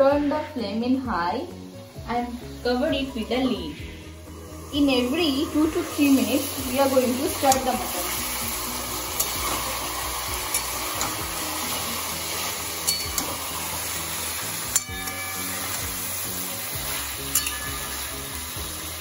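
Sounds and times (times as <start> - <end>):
meat sizzling in a pan: 1.6 - 19.0.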